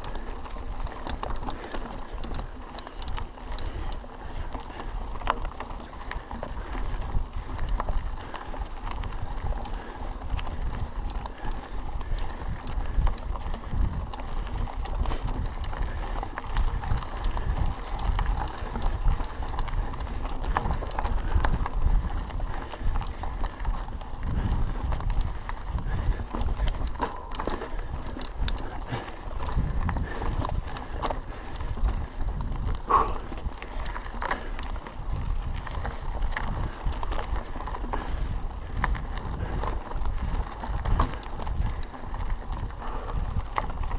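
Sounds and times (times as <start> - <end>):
bike clicks and rattles: 0.0 - 43.9
tyres crunching on dirt and stones: 0.0 - 43.9.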